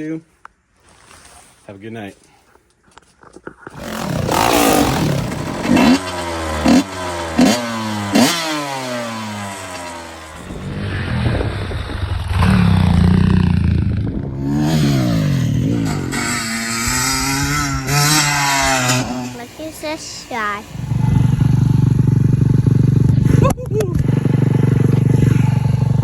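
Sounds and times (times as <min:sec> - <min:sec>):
motorcycle engine revving: 0:03.7 - 0:26.0.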